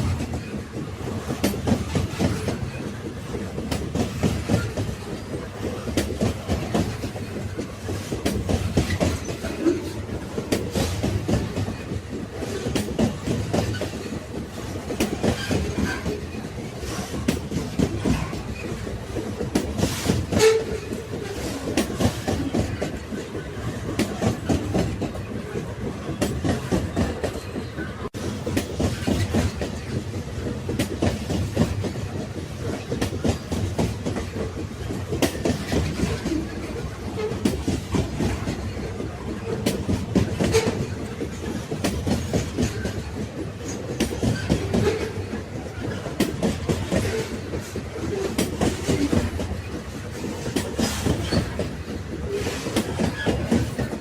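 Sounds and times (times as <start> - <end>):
railway carriages rumbling: 0.0 - 54.0
wheels clattering on rails: 0.0 - 54.0.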